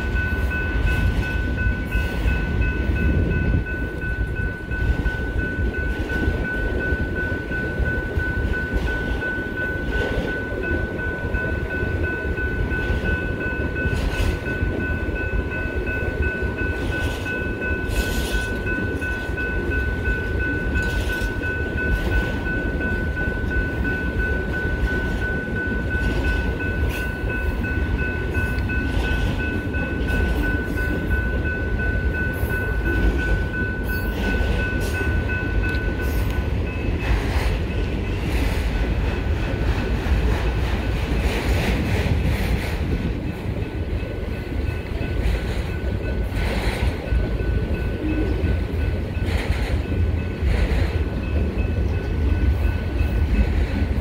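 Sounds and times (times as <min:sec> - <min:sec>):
crossing bell ringing: 0:00.0 - 0:54.0.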